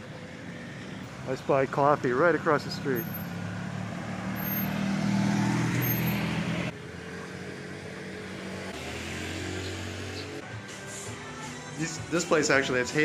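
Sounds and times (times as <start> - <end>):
low traffic hum: 0.0 - 11.2
vehicles passing: 0.0 - 13.0.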